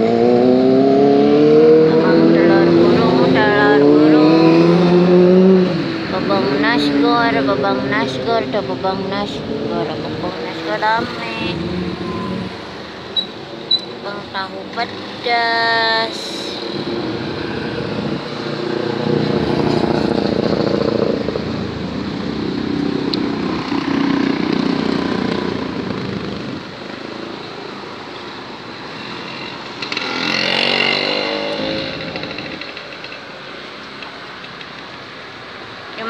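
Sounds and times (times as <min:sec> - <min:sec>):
motorcycles passing: 0:00.0 - 0:36.0.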